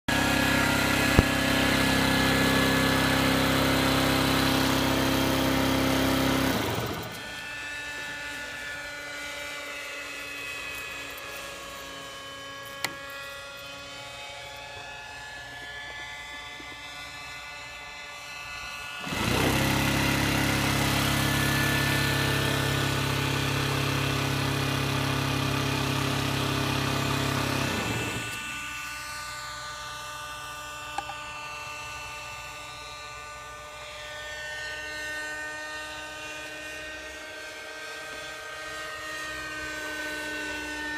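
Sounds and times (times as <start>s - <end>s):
model airplane motor whine: 0.1s - 40.9s.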